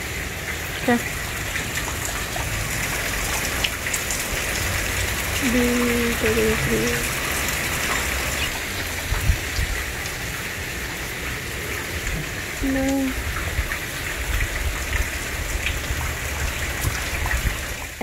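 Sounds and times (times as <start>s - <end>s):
heavy rain on roof and ground: 0.0s - 18.0s.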